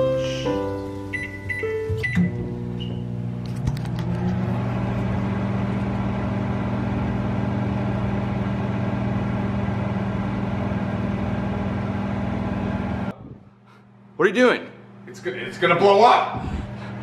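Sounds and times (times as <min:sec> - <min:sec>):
microwave oven humming: 0:00.0 - 0:14.2, 0:14.8 - 0:17.0.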